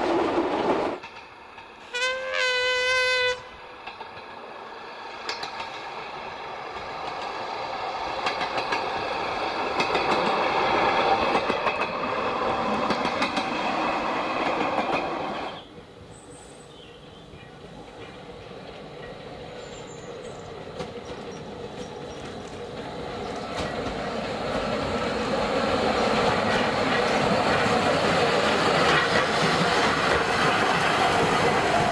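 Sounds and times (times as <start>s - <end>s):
train wheels clicking on rails: 0.0s - 2.3s, 3.1s - 31.9s
train approaching: 0.0s - 31.9s.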